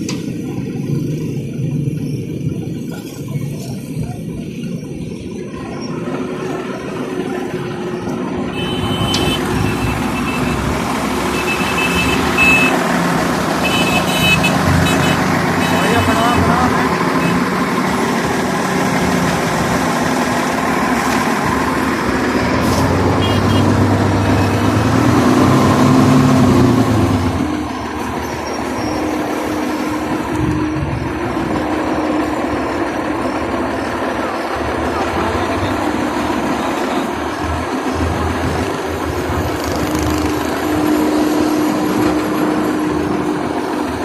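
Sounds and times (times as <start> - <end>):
diesel engine under load: 0.0 - 44.0.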